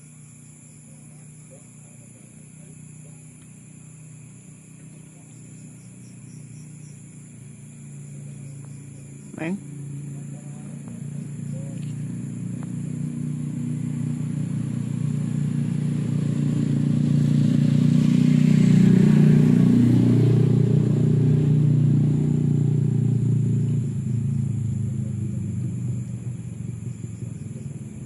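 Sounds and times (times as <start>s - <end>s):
vehicle engine passing by: 0.7s - 28.0s.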